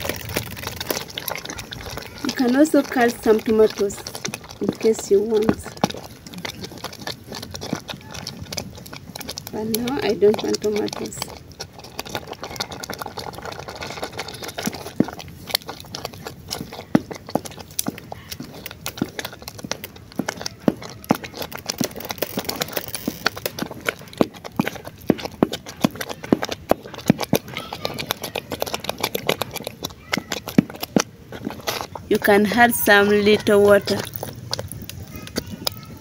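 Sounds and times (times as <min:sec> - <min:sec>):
wooden spoon scraping metal pot: 0:00.0 - 0:36.0.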